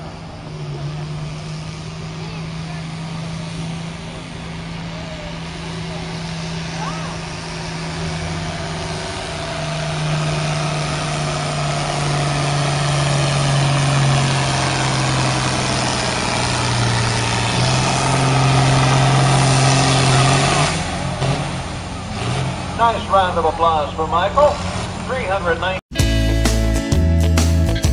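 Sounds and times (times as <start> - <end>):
tractor engine running under load: 0.0 - 25.7.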